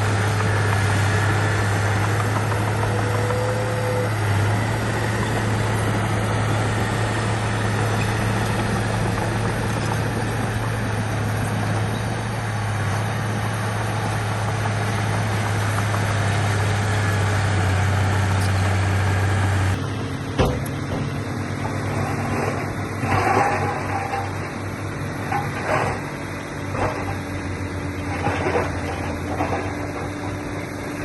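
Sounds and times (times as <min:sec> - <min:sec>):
heavy diesel engine humming: 0:00.0 - 0:31.0.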